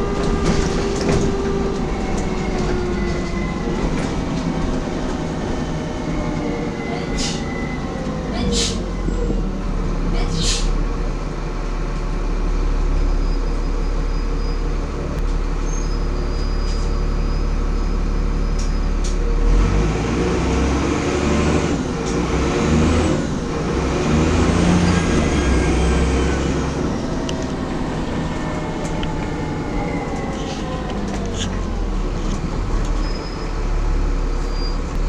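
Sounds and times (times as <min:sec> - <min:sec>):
bus diesel engine: 0:00.0 - 0:35.0.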